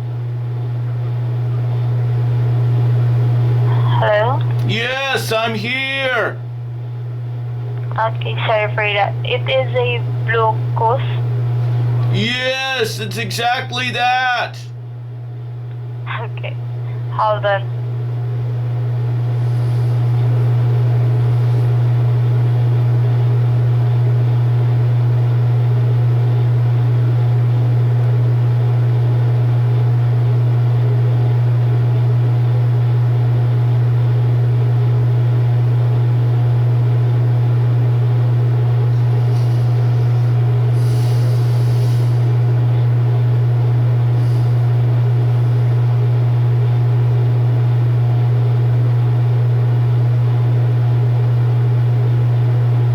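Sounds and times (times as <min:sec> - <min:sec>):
telephone line hum: 0:00.0 - 0:52.9.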